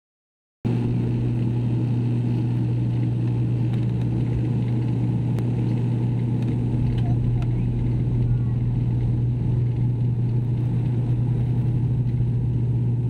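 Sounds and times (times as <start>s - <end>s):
turboprop engine drone in cabin: 0.7s - 13.0s.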